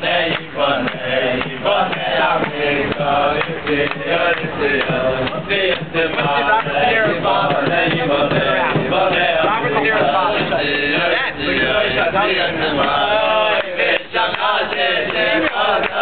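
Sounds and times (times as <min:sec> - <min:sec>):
group of men singing: 0:00.0 - 0:16.0.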